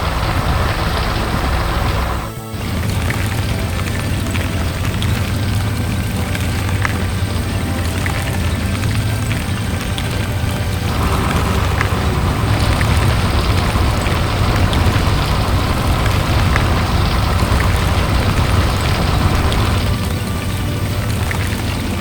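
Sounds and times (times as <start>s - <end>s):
heavy construction machine running: 0.0s - 22.0s.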